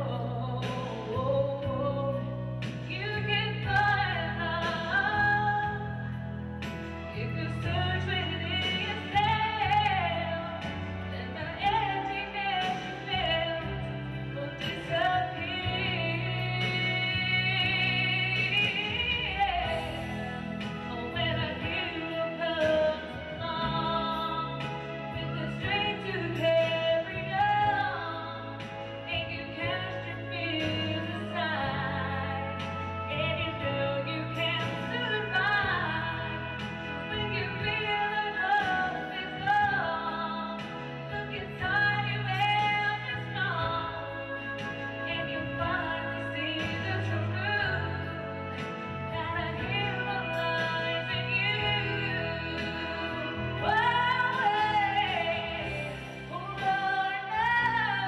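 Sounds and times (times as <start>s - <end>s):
instrumental accompaniment with bass: 0.0s - 58.0s
woman singing: 0.0s - 58.0s.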